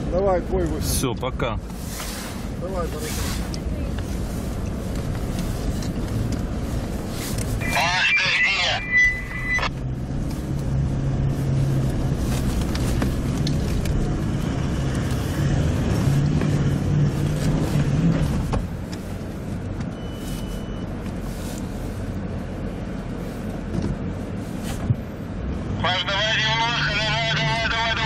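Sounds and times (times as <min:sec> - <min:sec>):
off-road vehicle engine under load: 0:00.0 - 0:28.0.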